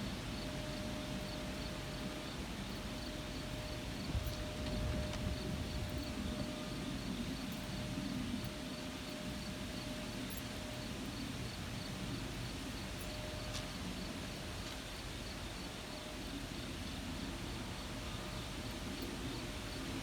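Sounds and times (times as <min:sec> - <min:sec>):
continuous low rumble: 0:00.0 - 0:20.0
crickets chirping: 0:00.0 - 0:20.0.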